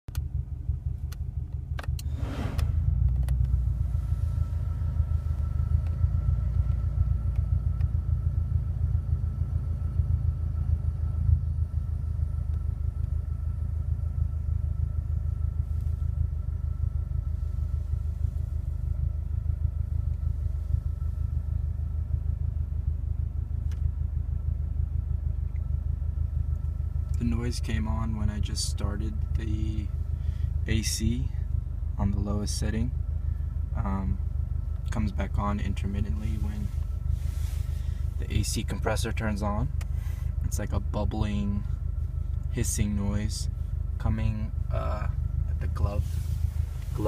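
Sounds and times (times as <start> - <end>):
air conditioning running: 0.1 - 47.0
car engine idling: 0.1 - 47.0.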